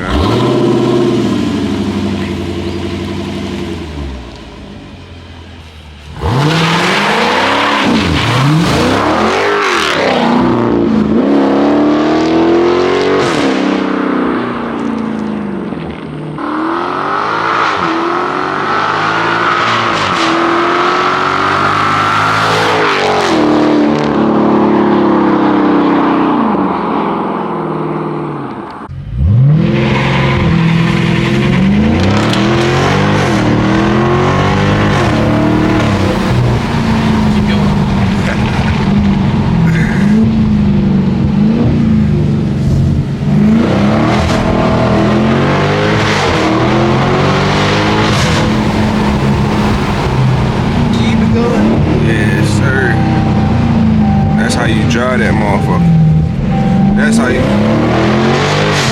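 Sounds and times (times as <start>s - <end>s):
car engine accelerating hard: 0.0s - 58.9s.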